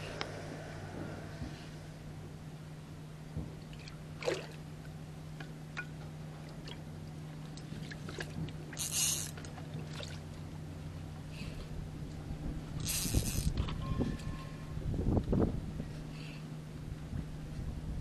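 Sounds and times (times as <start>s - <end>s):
low motor hum: 0.0s - 18.0s.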